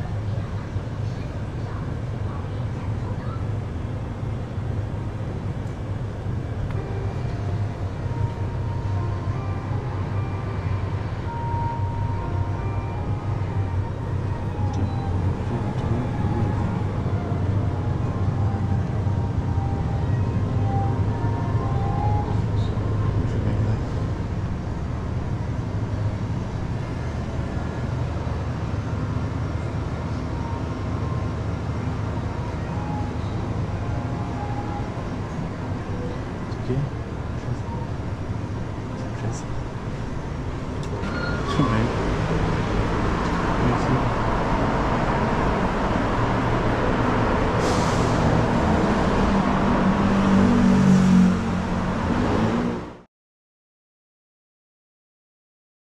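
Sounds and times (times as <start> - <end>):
low rumbling background noise: 0.0 - 47.8
traffic noise: 0.0 - 53.1.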